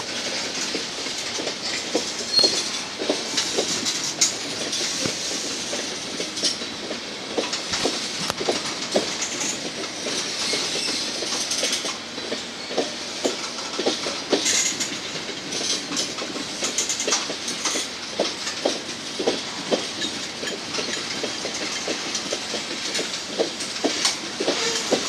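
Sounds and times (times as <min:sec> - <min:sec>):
freight train rolling past: 0:00.0 - 0:25.0
wheels clacking over rail joints: 0:00.0 - 0:25.0.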